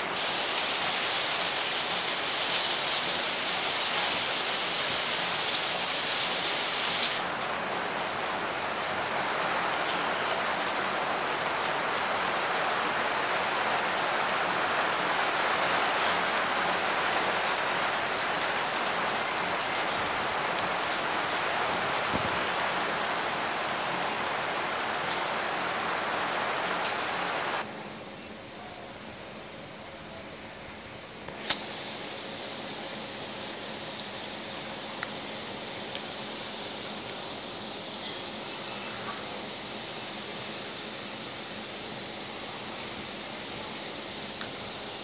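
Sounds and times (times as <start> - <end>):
heavy rain on concrete roofs: 0.0 - 45.0.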